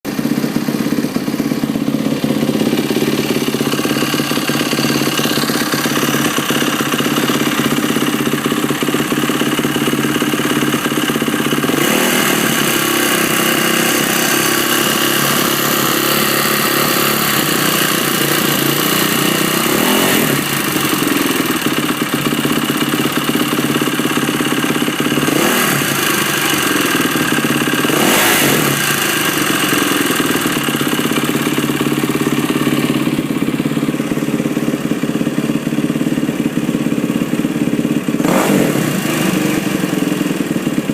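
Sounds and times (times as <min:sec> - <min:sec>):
motorcycle engine idling: 0:00.1 - 0:40.9.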